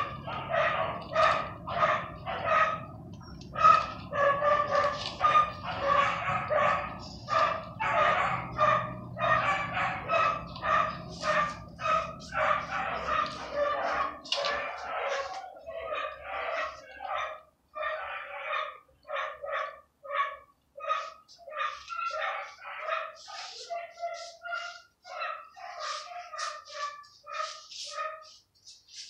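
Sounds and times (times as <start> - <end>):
dogs barking: 0.0 - 29.0.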